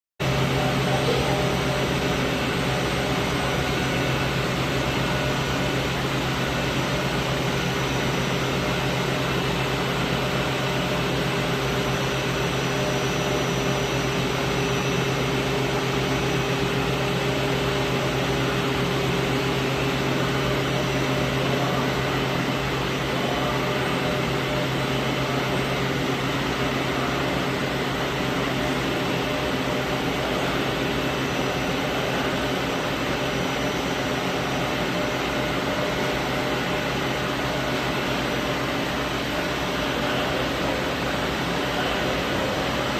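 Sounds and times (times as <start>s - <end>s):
machine mechanical hum: 0.2s - 42.9s.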